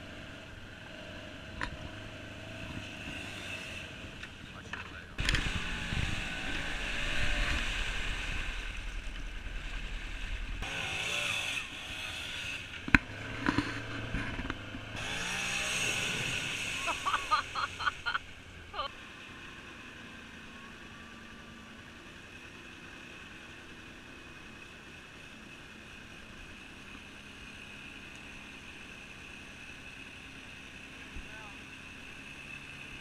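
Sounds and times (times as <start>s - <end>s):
distant quad engine: 0.0s - 33.0s
off-road vehicle engine: 0.0s - 33.0s.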